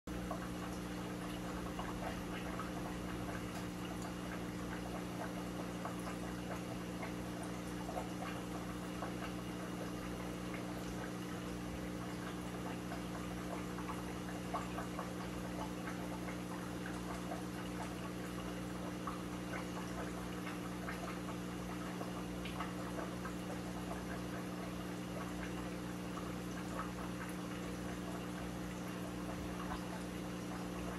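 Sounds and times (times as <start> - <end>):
pump humming: 0.1 - 30.9
water trickling and bubbling: 0.1 - 30.9.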